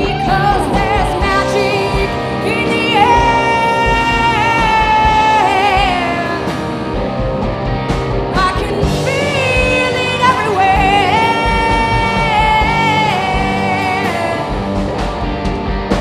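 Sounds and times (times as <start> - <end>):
bending lead guitar line: 0.0 - 16.0
blues-rock band playing: 0.0 - 16.0.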